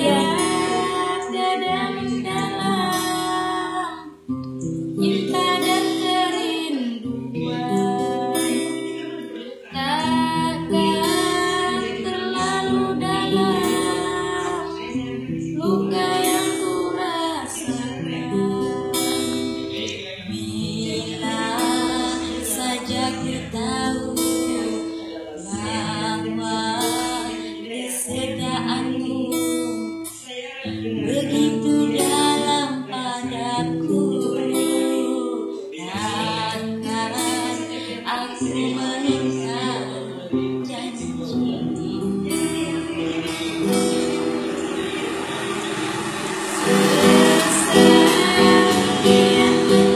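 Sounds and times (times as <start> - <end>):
woman singing: 0.0 - 45.3, 46.1 - 49.9
acoustic guitar: 0.0 - 49.9.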